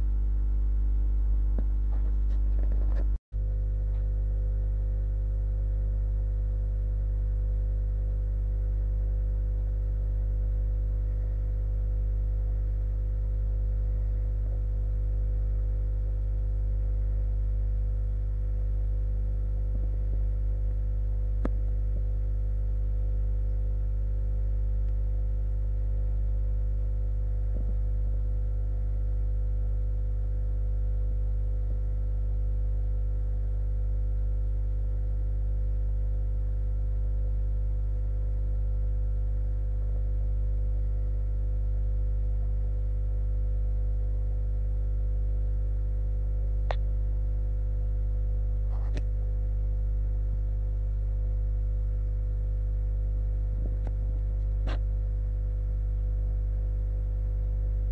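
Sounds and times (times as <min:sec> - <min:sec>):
aquarium equipment electrical hum: 0:00.0 - 0:57.9.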